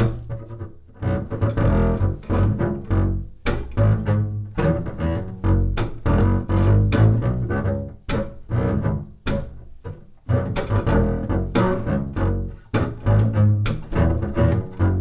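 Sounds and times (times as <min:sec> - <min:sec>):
double bass groove: 0:00.0 - 0:15.0.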